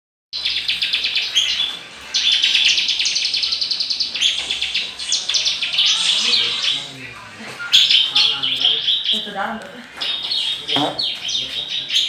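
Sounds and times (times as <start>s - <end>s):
bird singing fast chattering notes: 0.4s - 12.0s.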